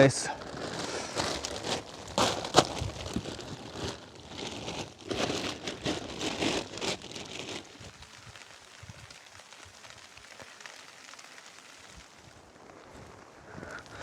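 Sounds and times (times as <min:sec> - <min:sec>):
plastic tarp crinkling: 0:00.0 - 0:14.0.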